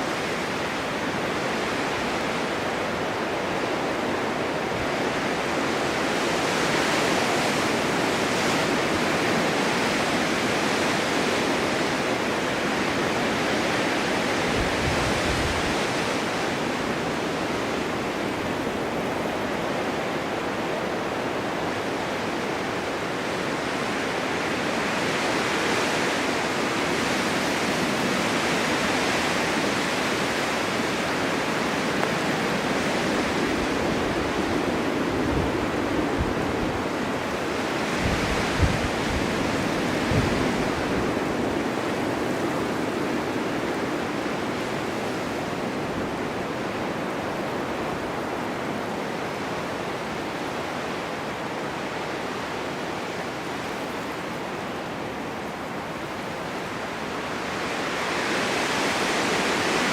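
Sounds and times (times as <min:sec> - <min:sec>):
blizzard wind blowing snow: 0:00.0 - 0:59.9.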